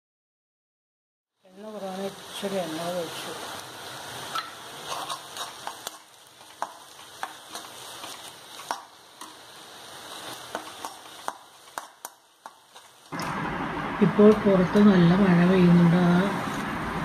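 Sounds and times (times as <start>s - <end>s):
onions sizzling in a pan: 1.4s - 17.0s.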